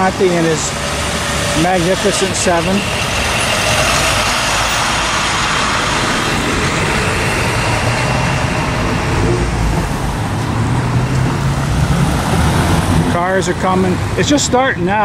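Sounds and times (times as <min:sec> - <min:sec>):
low engine hum: 0:00.0 - 0:14.5
bus driving past: 0:00.0 - 0:15.0
steady traffic noise: 0:00.0 - 0:15.0.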